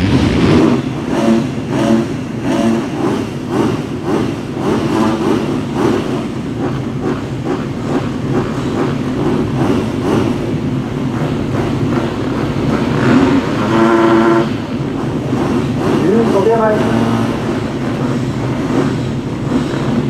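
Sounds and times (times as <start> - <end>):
held engine note: 0.0 - 20.0
motocross engines revving: 0.0 - 20.0.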